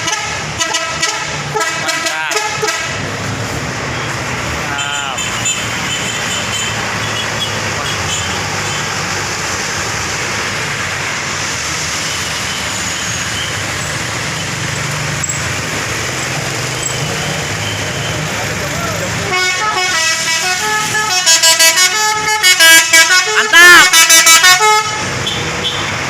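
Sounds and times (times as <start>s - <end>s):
bus engines humming: 0.0s - 26.0s
road traffic noise: 0.0s - 26.0s.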